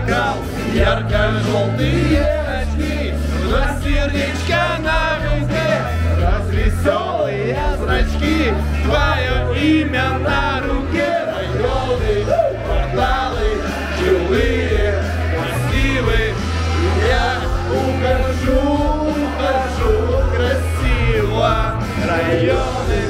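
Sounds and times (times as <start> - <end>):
backing track with heavy bass: 0.0 - 23.0
man singing karaoke: 0.0 - 23.0.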